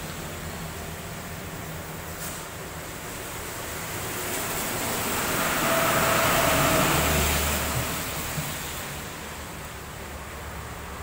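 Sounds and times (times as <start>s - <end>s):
low engine hum: 0.0s - 11.0s
tyres hissing on wet road: 0.0s - 11.0s.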